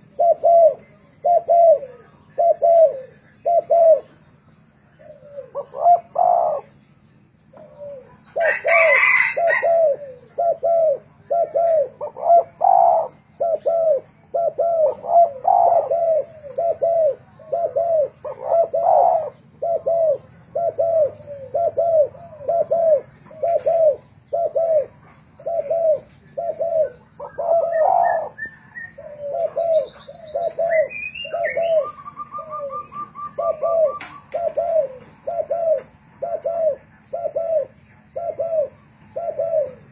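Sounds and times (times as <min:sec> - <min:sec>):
bird chirp: 0:00.0 - 0:39.9
doves cooing: 0:00.0 - 0:39.9.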